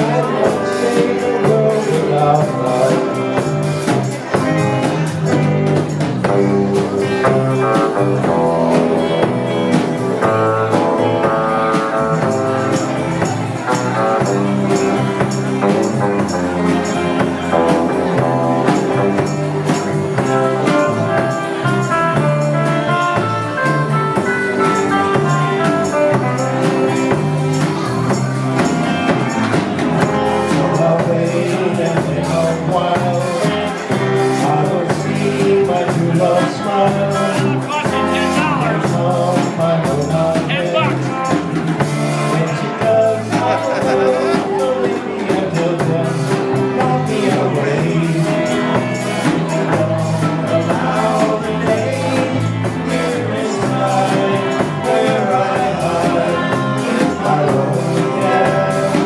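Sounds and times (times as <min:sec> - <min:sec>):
live rock band: 0:00.0 - 0:59.0
steady drum beat: 0:00.0 - 0:59.0.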